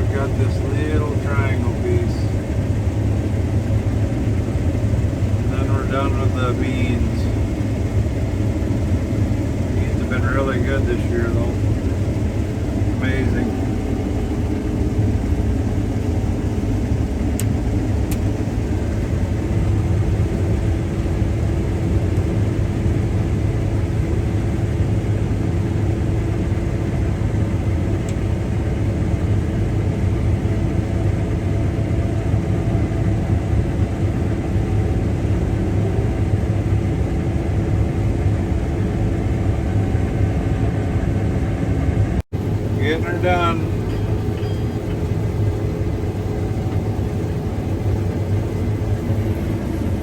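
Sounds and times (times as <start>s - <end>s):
low engine drone: 0.0s - 50.0s
machinery hum: 0.0s - 50.0s.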